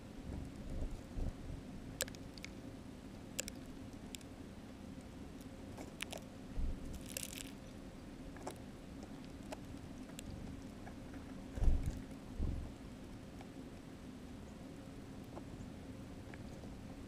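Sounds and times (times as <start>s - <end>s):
birds pecking seed on snow: 0.0s - 17.0s
rustle: 0.0s - 17.0s.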